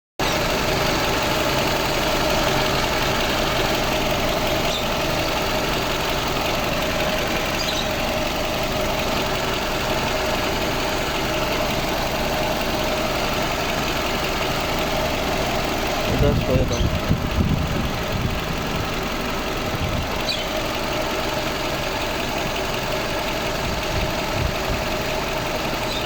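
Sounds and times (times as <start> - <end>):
car engine idling: 0.2 - 26.0.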